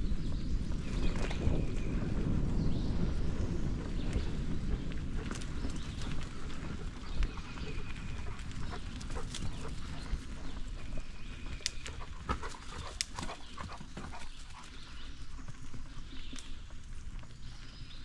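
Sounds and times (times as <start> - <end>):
bicycle rolling on dirt trail: 0.0 - 18.0.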